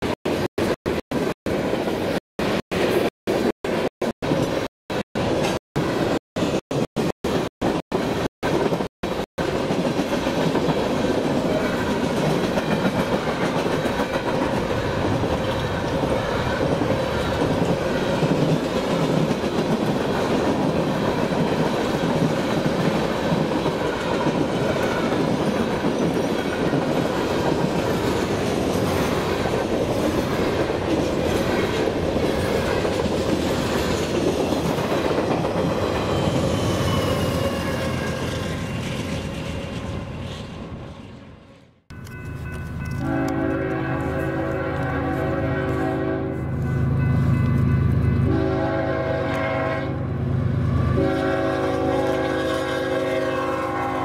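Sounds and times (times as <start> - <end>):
freight train rumbling past: 0.3 - 54.0.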